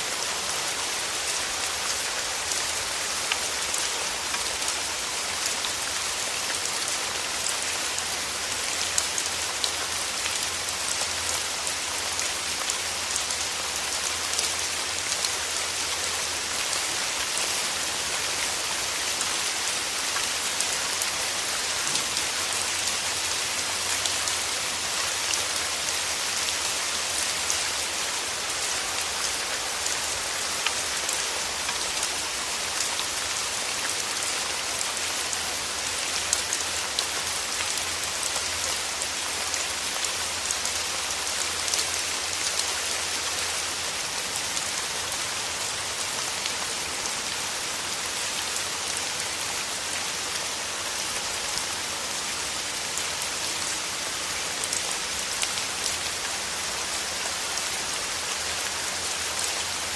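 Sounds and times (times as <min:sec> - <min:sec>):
rain pattering on petals: 0:00.1 - 0:59.9.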